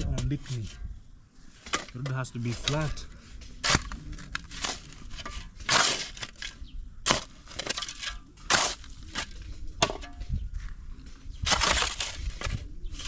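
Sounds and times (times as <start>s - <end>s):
hand tools scraping soil and gravel: 0.0s - 13.0s.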